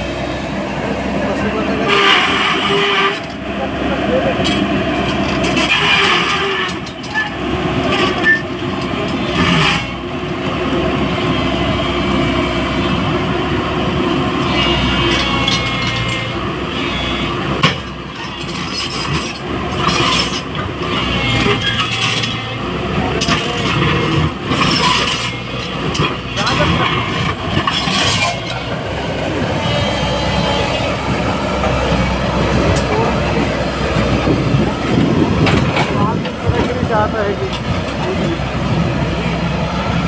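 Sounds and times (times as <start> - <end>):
excavator diesel engine: 0.0 - 40.0.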